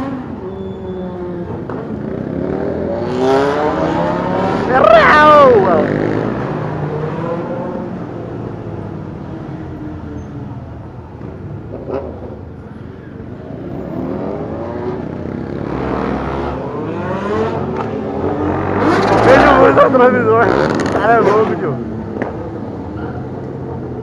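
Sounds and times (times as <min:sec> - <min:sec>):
motorcycle engines revving: 0:00.0 - 0:24.0.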